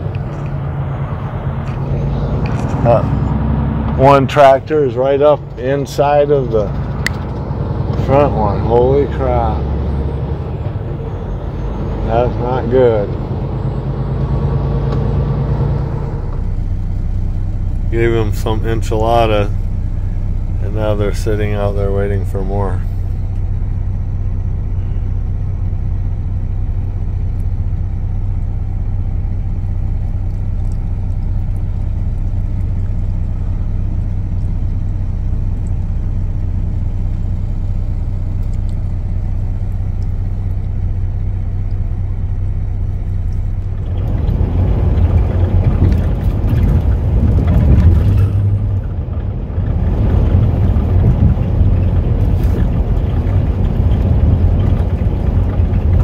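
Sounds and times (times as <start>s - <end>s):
truck diesel engine idling: 0.0s - 56.0s
truck driving on highway: 0.0s - 56.0s.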